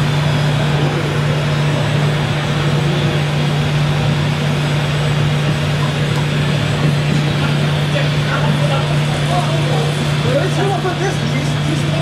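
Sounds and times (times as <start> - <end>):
model truck engine drone: 0.0 - 12.0.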